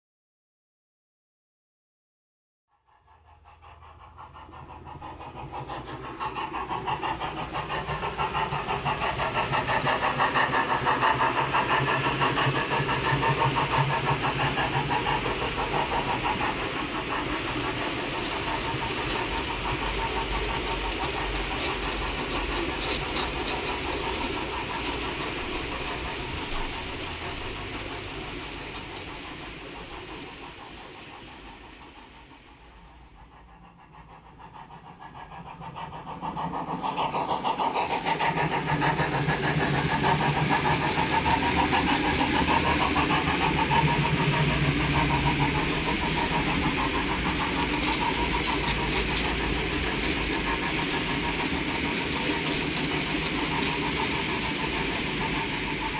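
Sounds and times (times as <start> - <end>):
model train wheels clattering: 3.6 - 55.9.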